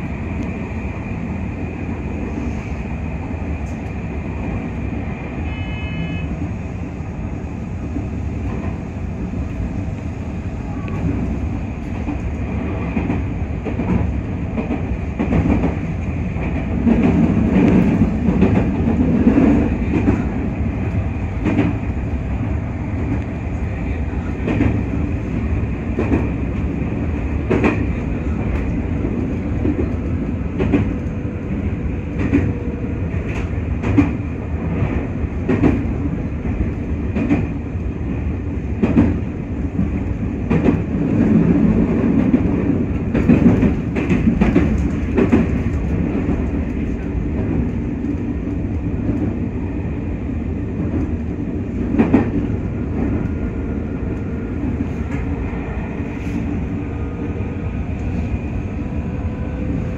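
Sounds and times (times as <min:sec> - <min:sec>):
wheels rumbling on rail: 0:00.0 - 0:59.9
rail joint clicks and knocks: 0:03.4 - 0:04.8, 0:07.8 - 0:59.9.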